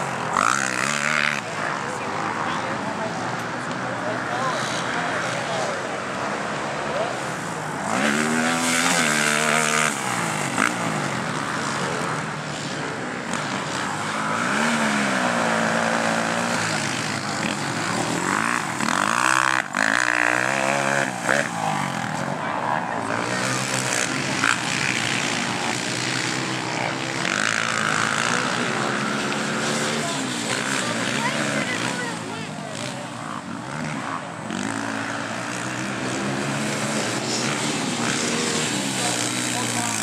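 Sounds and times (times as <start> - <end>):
quad engines revving: 0.0 - 40.0.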